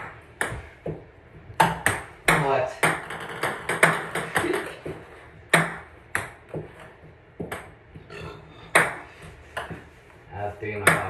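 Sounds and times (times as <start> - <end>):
ping pong balls bouncing: 0.0 - 8.1, 8.7 - 10.0, 10.8 - 11.0.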